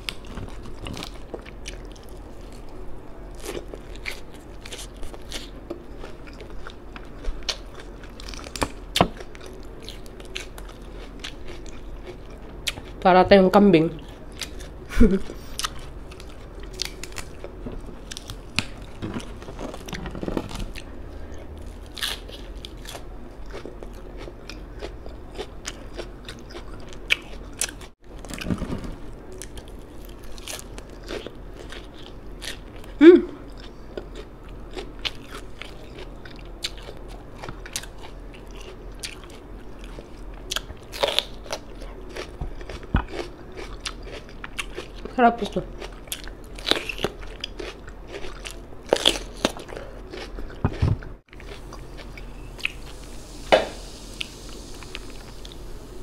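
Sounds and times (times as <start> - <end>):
wet chewing and crunching: 0.0 - 13.0, 14.0 - 53.3.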